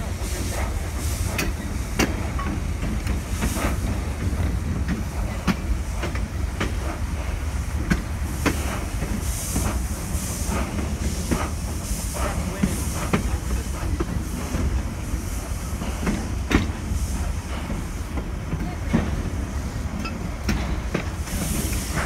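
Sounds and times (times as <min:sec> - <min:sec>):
steam hissing: 0:00.0 - 0:22.0
train rumbling on rails: 0:00.0 - 0:22.0.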